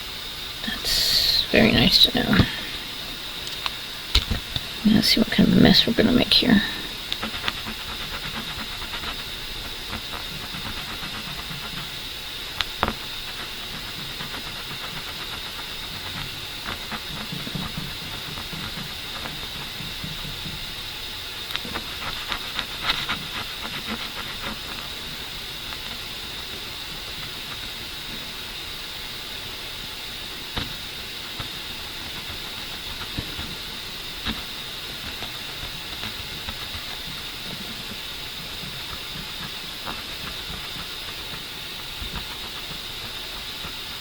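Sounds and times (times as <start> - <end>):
steady hiss: 0.0 - 44.0.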